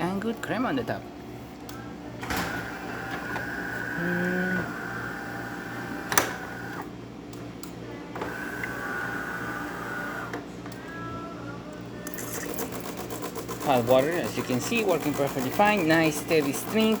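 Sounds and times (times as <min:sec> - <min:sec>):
espresso machine motor whine: 0:01.4 - 0:07.0, 0:08.2 - 0:11.2, 0:12.1 - 0:17.0.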